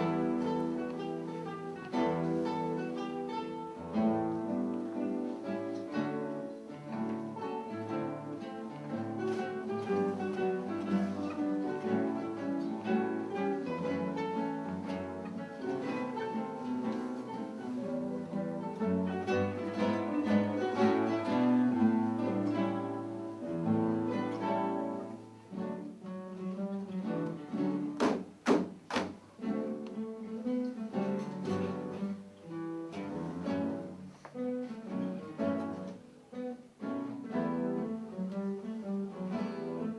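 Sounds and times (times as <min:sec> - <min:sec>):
acoustic guitar ensemble: 0:00.0 - 0:39.9.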